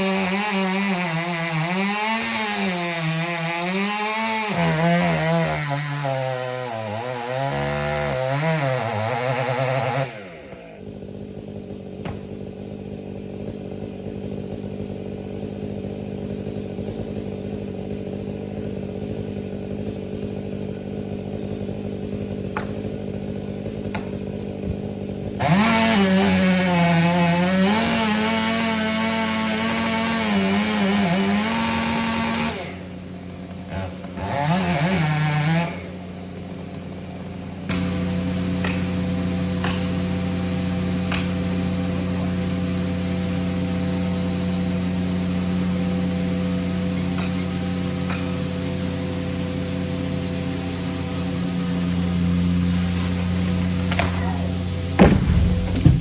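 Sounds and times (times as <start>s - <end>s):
chainsaw running: 0.0s - 56.0s.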